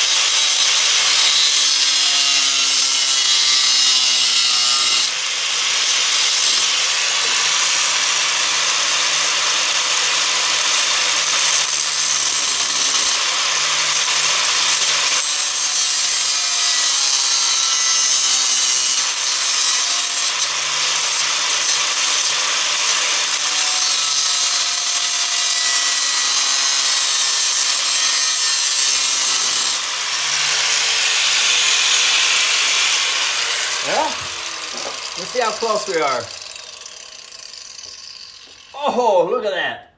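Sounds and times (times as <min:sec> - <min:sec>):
hand grinder grinding steel: 0:00.0 - 0:39.4.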